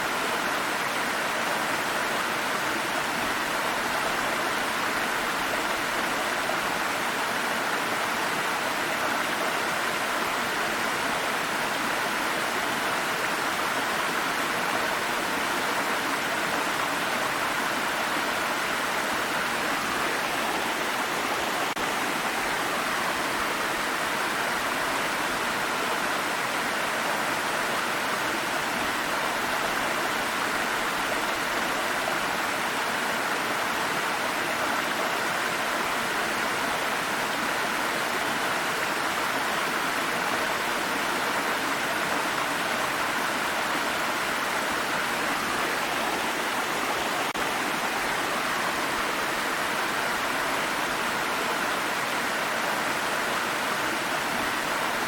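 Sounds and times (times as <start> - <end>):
water stream flowing: 0.0 - 55.0.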